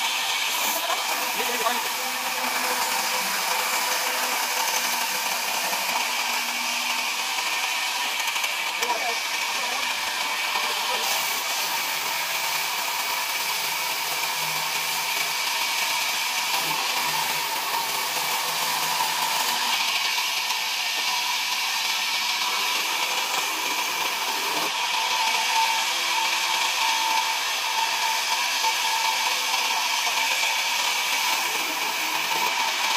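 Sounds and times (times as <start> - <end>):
band saw cutting wood: 0.0 - 32.9.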